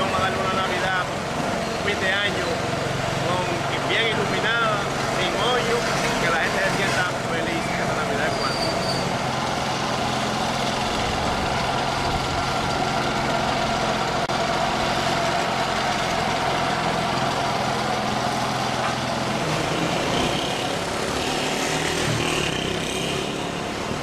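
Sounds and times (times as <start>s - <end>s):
large truck engine running: 0.0s - 24.0s.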